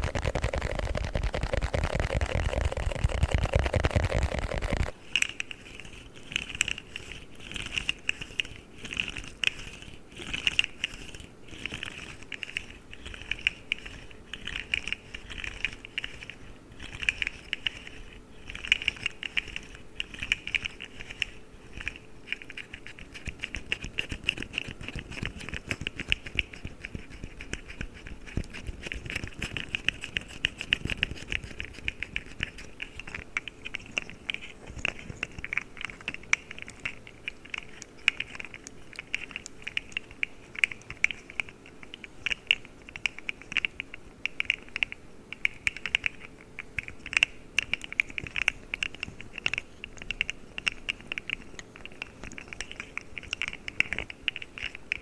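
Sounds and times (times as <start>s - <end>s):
fidget toy clicking and clacking: 0.0s - 55.0s.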